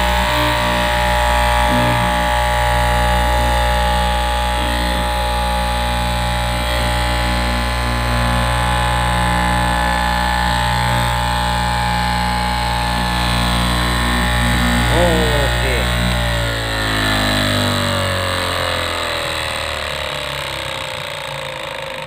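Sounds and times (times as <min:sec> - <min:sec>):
cloth cutting machine droning: 0:00.0 - 0:20.3.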